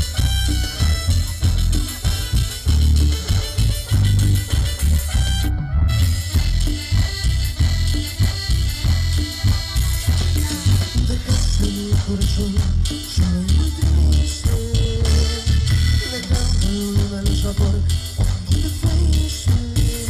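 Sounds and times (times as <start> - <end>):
drum kit: 0.0 - 20.0
heavy bass line: 0.0 - 20.0
keyboard: 0.0 - 20.0.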